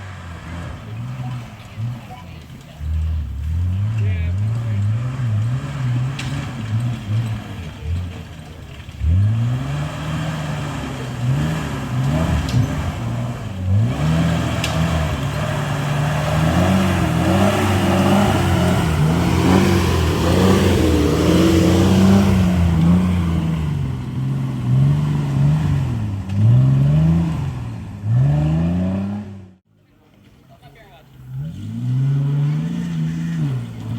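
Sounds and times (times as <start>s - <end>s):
vehicle engine revving: 0.0s - 30.2s, 31.0s - 33.9s.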